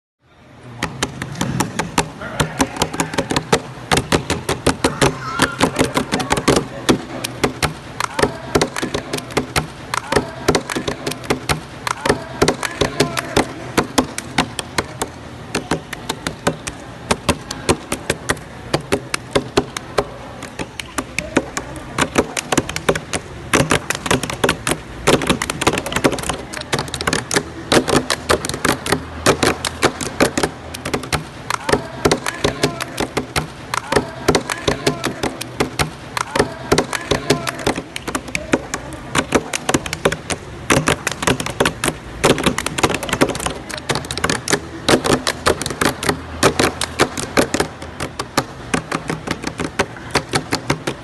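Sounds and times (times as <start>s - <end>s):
faint voices: 0.3s - 51.0s
sharp rhythmic knocks: 0.7s - 51.0s.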